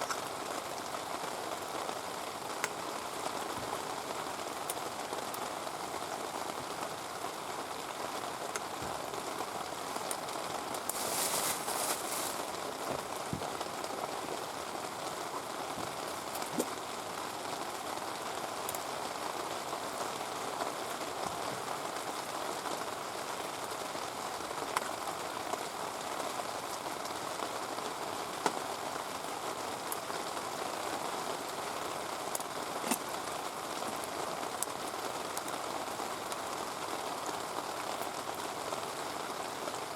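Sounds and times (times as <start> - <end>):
campfire crackling: 0.0 - 38.6
heavy rain falling: 0.0 - 39.9.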